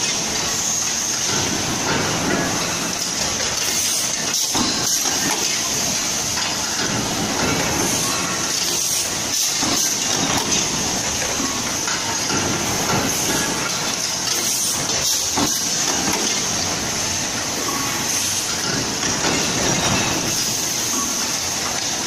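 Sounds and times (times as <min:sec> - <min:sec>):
factory machinery din: 0:00.0 - 0:22.0.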